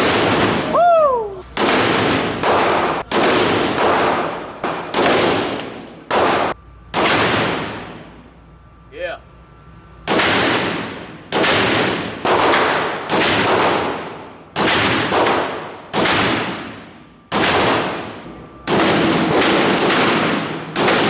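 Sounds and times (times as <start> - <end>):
gunshots echoing: 0.0 - 0.8, 1.5 - 7.9, 10.1 - 21.0.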